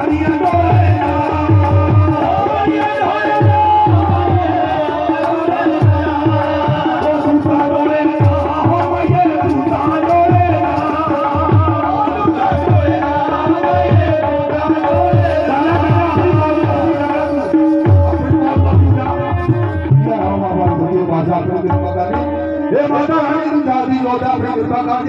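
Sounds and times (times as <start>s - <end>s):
drums beating a steady rhythm: 0.0s - 25.0s.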